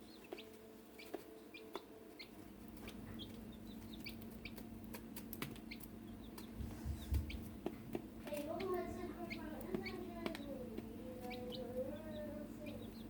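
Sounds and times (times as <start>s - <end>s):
chicks cheeping: 0.0s - 13.0s
steady low hum: 0.0s - 13.0s
beaks pecking clicks: 0.2s - 6.6s, 7.2s - 11.8s.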